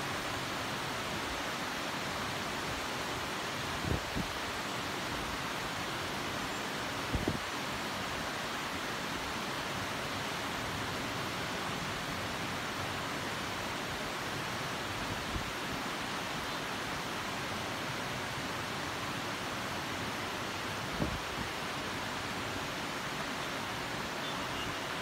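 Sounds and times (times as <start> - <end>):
steady rain hissing: 0.0 - 25.0.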